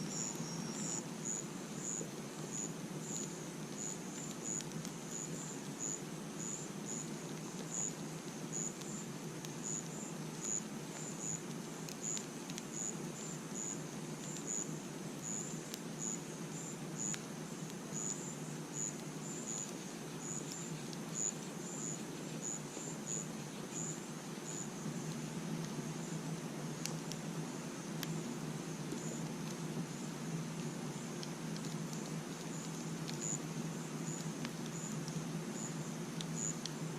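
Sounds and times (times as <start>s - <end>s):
campfire crackling: 0.0s - 36.9s
crickets chirping: 0.0s - 36.9s.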